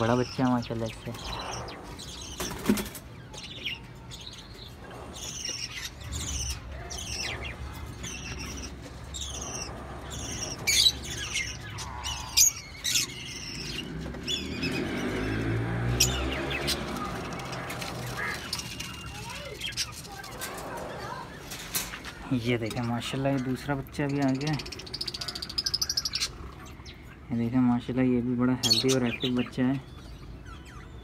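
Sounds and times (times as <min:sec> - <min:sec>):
parakeets chirping: 0:00.0 - 0:31.0.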